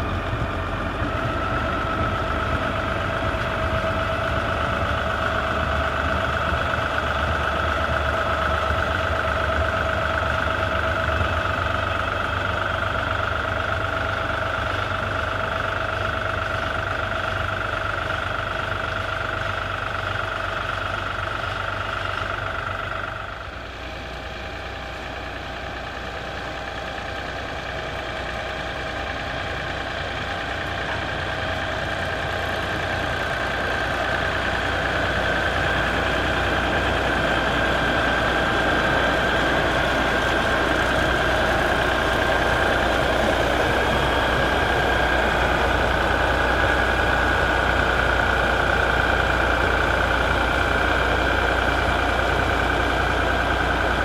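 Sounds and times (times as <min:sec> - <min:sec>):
engine running with whine: 0:00.0 - 0:54.0.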